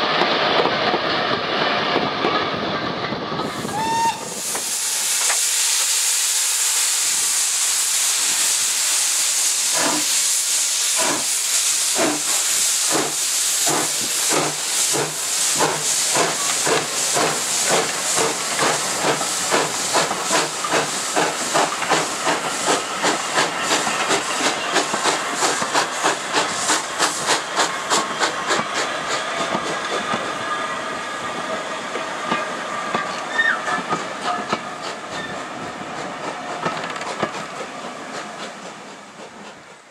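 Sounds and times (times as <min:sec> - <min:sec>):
steam hissing: 0:03.3 - 0:39.9
steam locomotive exhaust chuffs: 0:03.5 - 0:39.9.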